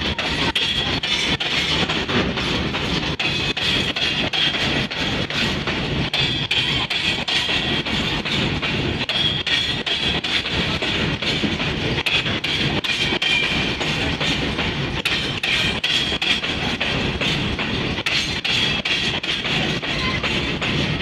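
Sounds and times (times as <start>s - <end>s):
train wheels rumbling on rail: 0.0s - 21.0s
wheels clanking over rail joints: 0.0s - 21.0s.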